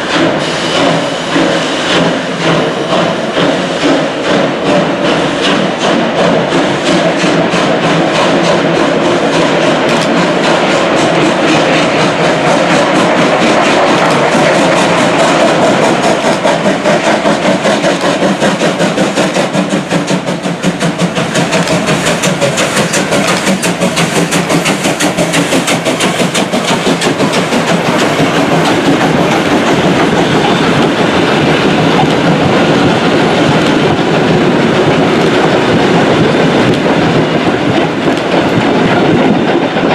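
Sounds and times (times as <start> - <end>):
steam locomotive beat: 0.0 - 39.9.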